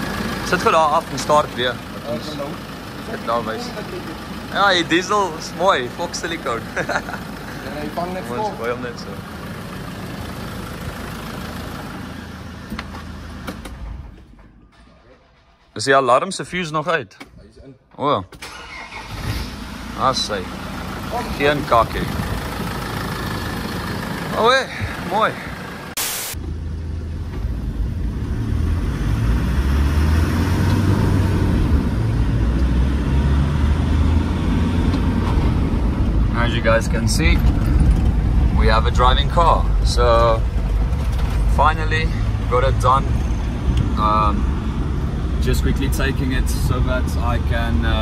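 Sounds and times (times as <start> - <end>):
diesel engine idling: 0.0 - 15.6, 18.4 - 28.4, 31.2 - 48.0.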